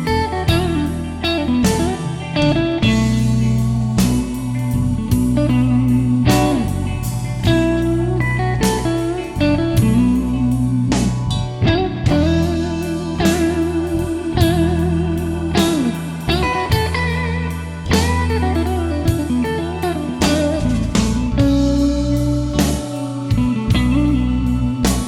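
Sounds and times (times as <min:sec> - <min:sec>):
bass and drums: 0:00.0 - 0:25.0
lead guitar with vibrato: 0:00.0 - 0:25.0.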